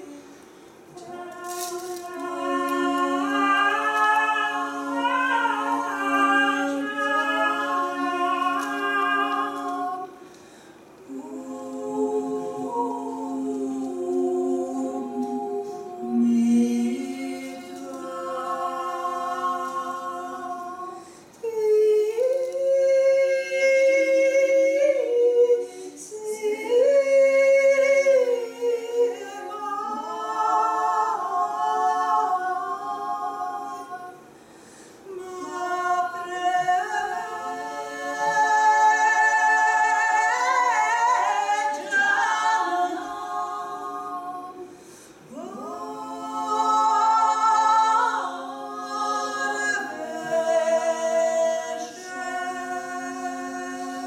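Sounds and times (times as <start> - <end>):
women's choir singing a cappella: 0.0 - 54.0.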